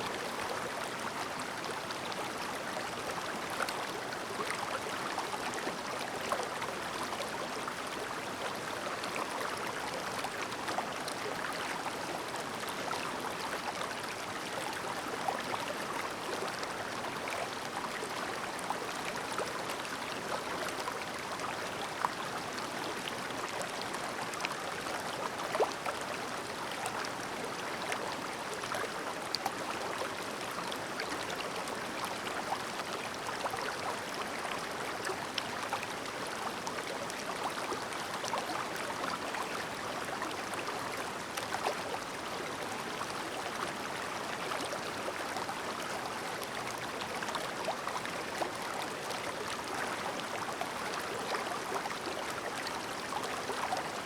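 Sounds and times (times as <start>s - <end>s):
shallow river babbling: 0.1s - 54.0s.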